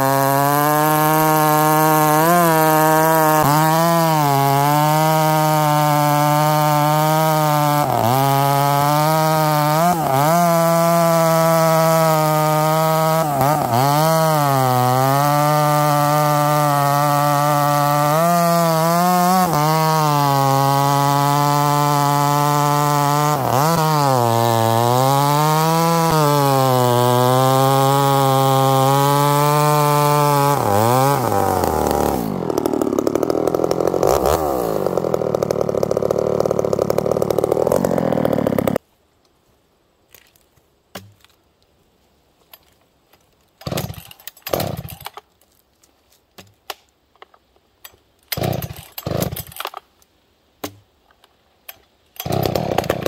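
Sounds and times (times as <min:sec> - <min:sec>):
chainsaw cutting wood: 0:00.0 - 0:38.8, 0:43.6 - 0:45.2, 0:47.8 - 0:49.8, 0:51.7 - 0:53.0.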